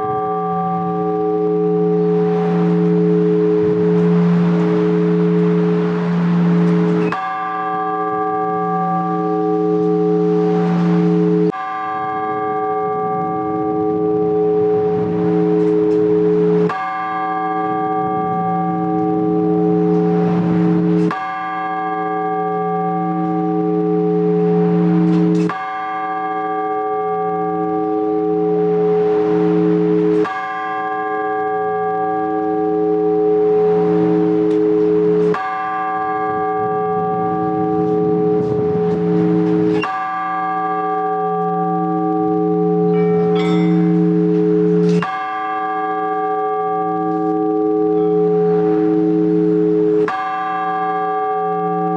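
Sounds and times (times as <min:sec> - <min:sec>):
church bell tolling: 0:00.0 - 0:51.9.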